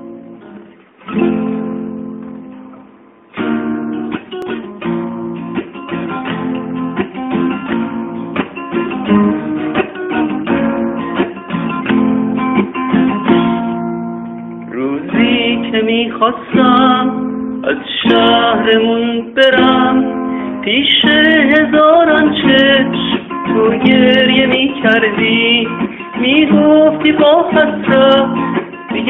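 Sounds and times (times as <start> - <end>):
guitar chord ringing: 0.0 - 29.0
plucked guitar notes: 0.0 - 29.0.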